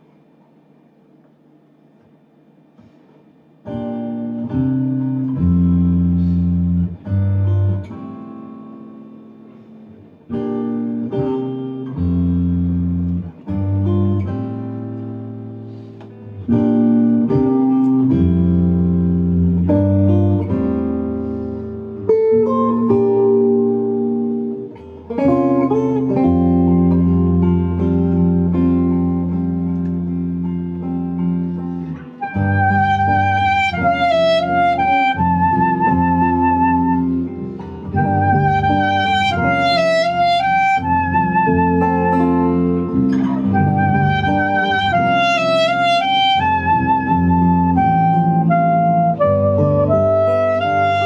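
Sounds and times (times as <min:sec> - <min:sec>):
acoustic guitar chords: 0:02.9 - 0:51.0
electric bass: 0:03.8 - 0:08.3, 0:10.2 - 0:51.0.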